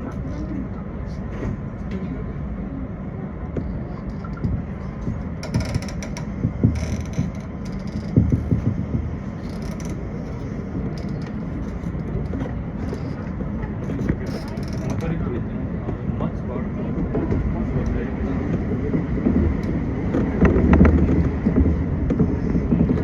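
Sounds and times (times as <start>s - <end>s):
train interior rumble: 0.0s - 23.0s
knocks and clatter: 3.5s - 16.0s, 16.9s - 23.0s.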